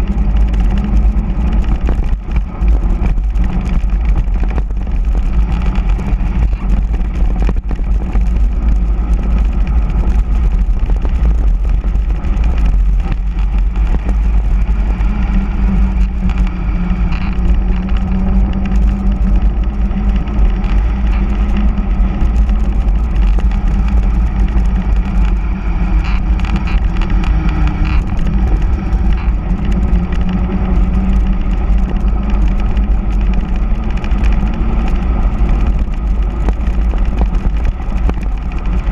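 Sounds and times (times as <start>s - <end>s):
bike tyres humming on road: 0.0s - 38.9s
wind buffeting microphone: 0.0s - 38.9s.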